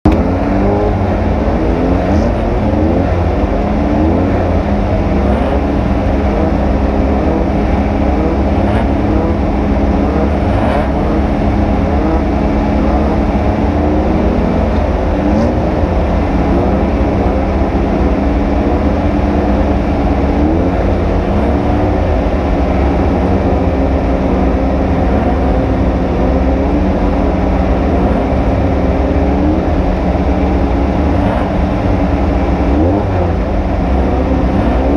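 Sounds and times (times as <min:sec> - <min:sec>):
race vehicle engine revving: 0:00.0 - 0:34.9.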